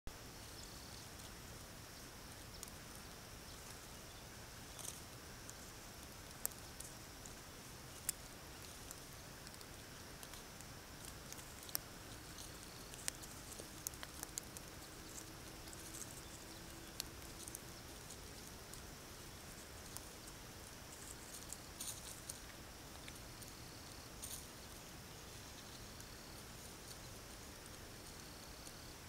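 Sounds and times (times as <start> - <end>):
steady hiss: 0.1 - 29.0
ticks and rustles in dry leaves: 0.2 - 29.0.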